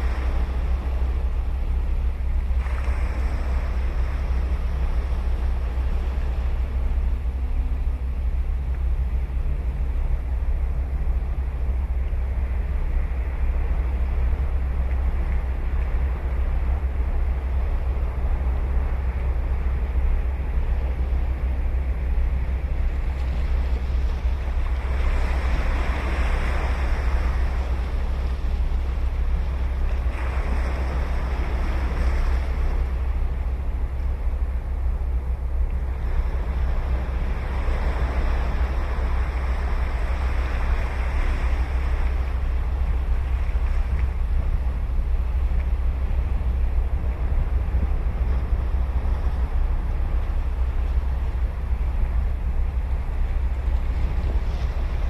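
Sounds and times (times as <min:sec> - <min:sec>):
ocean waves breaking: 0:00.0 - 0:55.0
wind rumble on microphone: 0:00.0 - 0:55.0.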